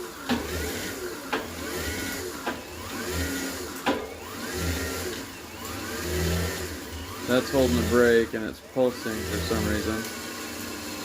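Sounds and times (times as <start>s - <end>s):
electric bike motor pulsing whine: 0.0s - 11.0s.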